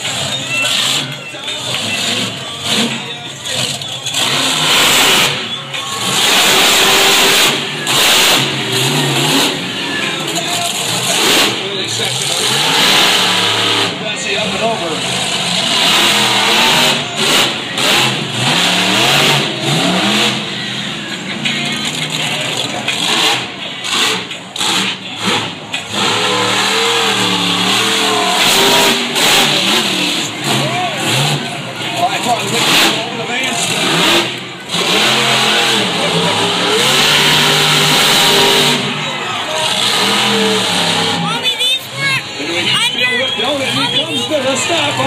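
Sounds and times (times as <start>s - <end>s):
monster truck engines revving: 0.0s - 45.0s.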